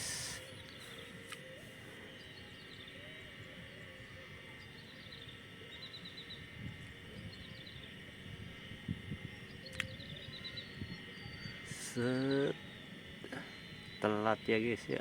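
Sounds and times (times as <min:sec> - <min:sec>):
birds chirping: 0:00.0 - 0:15.0
steady high-pitched hum: 0:00.0 - 0:15.0.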